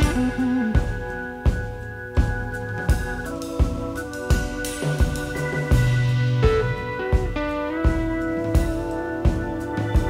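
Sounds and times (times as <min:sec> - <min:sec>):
drum kit steady beat: 0:00.0 - 0:10.0
low bass notes: 0:00.0 - 0:10.0
organ chords: 0:00.0 - 0:10.0.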